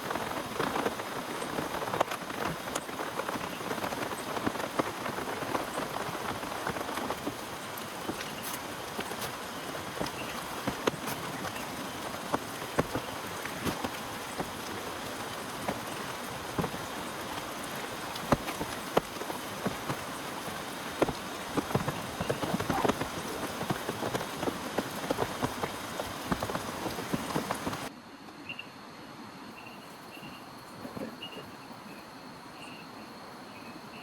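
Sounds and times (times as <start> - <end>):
heavy rain falling: 0.0 - 27.9
large raindrops tapping: 0.0 - 27.9.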